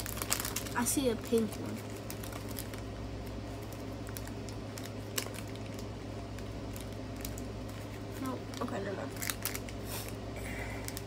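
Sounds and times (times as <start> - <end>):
plastic bags clicking and rustling: 0.0 - 2.8, 3.6 - 10.1
steady low hum: 0.0 - 11.0.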